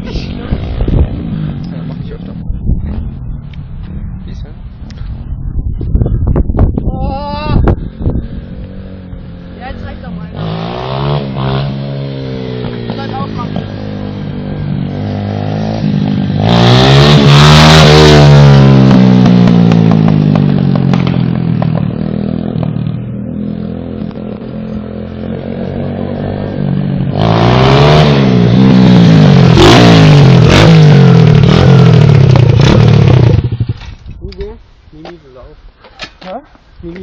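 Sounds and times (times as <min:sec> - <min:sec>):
motorbike engine revving: 0:00.0 - 0:03.4, 0:07.6 - 0:34.1.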